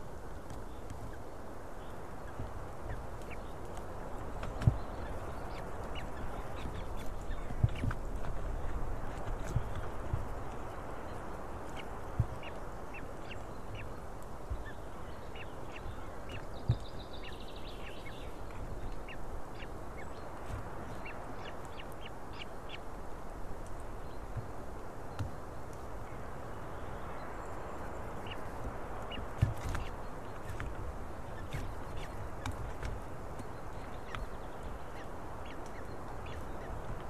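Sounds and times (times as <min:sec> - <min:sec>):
outdoor background rush: 0:00.0 - 0:37.0.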